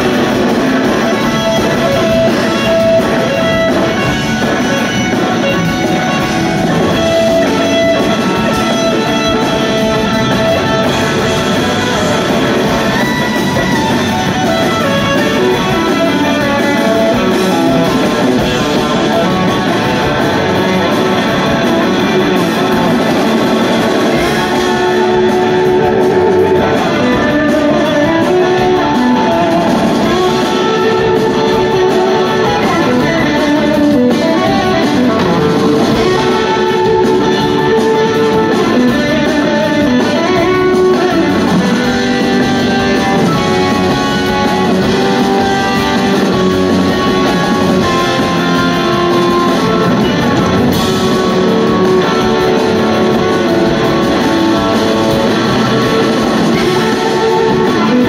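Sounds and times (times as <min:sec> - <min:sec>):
drum kit: 0:00.0 - 0:58.0
electric guitar: 0:00.0 - 0:58.0
live rock band playing: 0:00.0 - 0:58.0.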